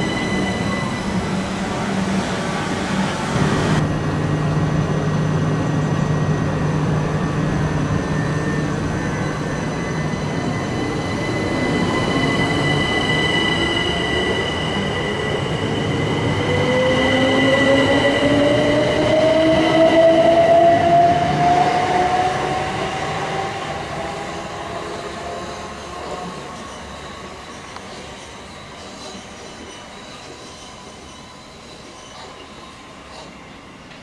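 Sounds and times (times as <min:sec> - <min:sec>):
train accelerating with whine: 0:00.0 - 0:34.0.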